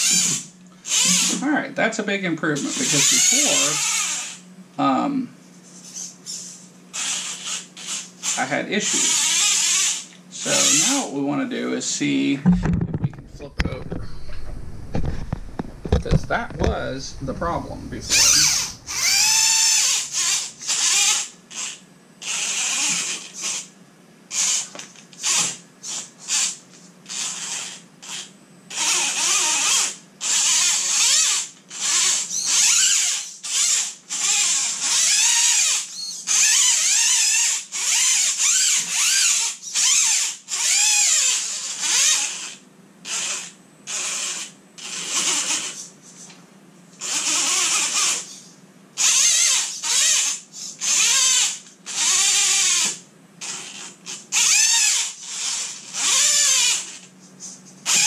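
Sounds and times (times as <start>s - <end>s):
electric motor whining in bursts: 0.0s - 1.5s, 2.5s - 4.5s, 5.7s - 11.2s, 12.4s - 23.7s, 24.3s - 45.9s, 47.0s - 57.1s.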